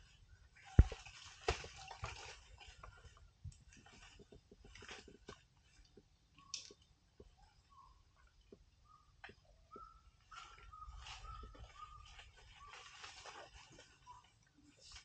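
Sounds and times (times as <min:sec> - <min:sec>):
leaves and branches rustling: 0:00.0 - 0:08.4, 0:09.7 - 0:15.0.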